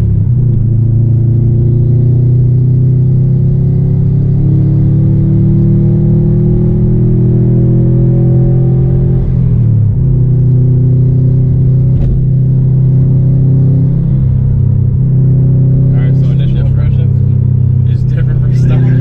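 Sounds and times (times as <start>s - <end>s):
car engine from inside cabin: 0.0s - 19.0s.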